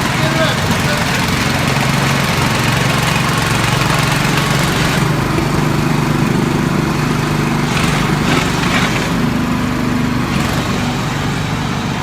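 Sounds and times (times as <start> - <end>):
small tiller engine running: 0.0 - 12.0.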